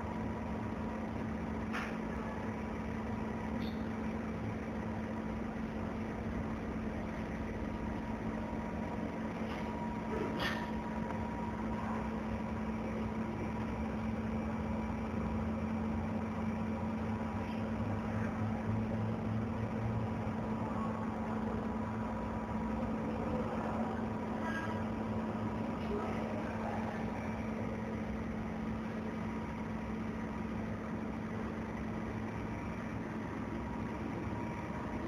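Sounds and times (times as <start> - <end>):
faint high whine: 0.0 - 35.0
machine hum with fans: 0.0 - 35.0.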